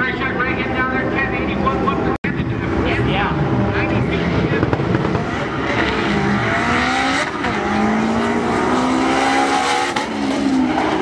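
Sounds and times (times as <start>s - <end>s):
car engine accelerating hard: 0.6s - 11.0s.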